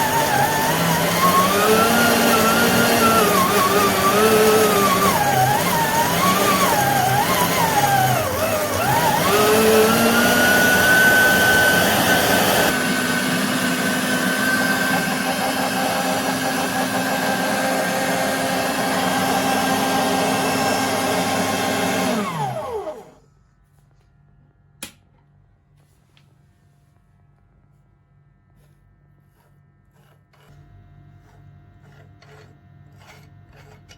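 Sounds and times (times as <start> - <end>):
electric meat grinder whining: 0.0 - 23.2, 29.4 - 33.9.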